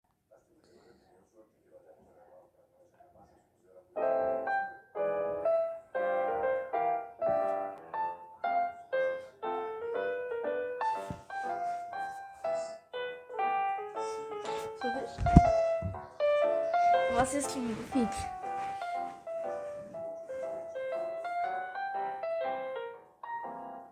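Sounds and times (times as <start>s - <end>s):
piano melody: 3.9s - 23.9s.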